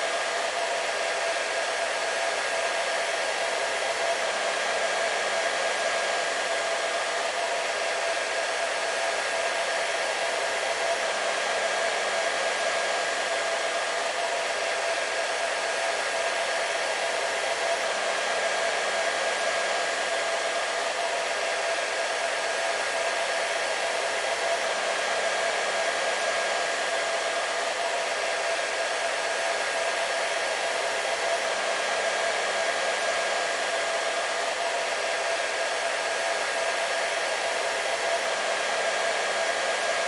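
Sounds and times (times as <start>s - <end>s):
hair dryer running: 0.0s - 40.0s.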